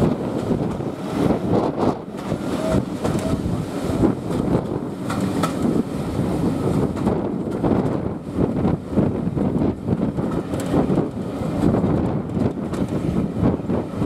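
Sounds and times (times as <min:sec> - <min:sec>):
train wheels rumbling on track: 0:00.0 - 0:14.0
wind on microphone: 0:00.0 - 0:14.0.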